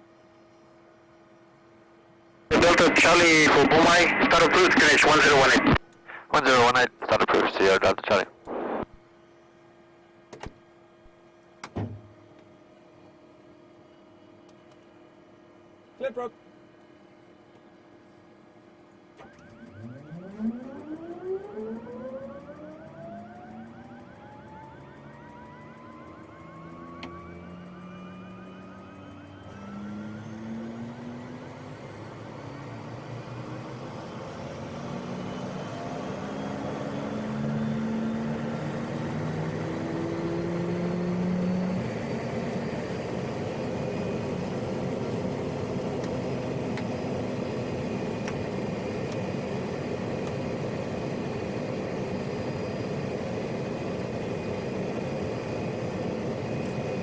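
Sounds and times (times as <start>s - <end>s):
turboprop engine whine: 0.0s - 57.0s.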